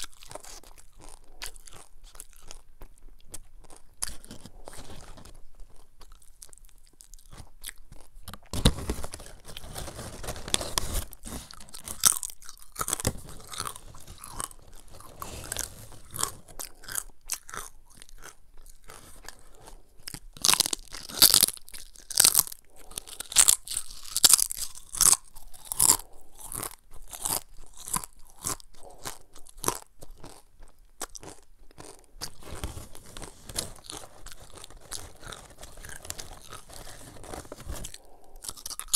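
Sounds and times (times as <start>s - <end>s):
person chewing crunchy chips: 0.0s - 38.9s.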